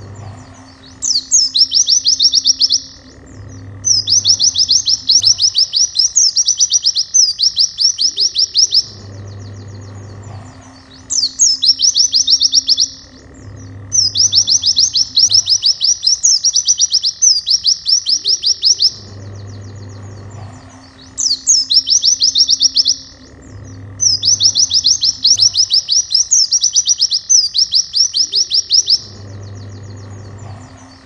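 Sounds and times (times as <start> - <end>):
bird chirping song: 0.0 - 31.0.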